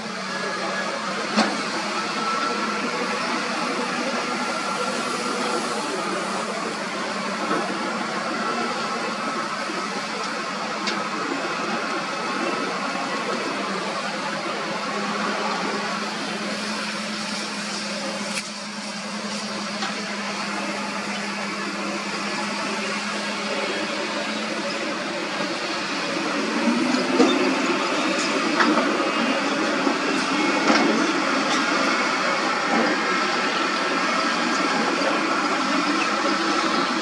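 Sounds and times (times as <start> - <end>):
bulldozer working: 0.0 - 37.0
dump truck diesel engine running: 0.0 - 37.0.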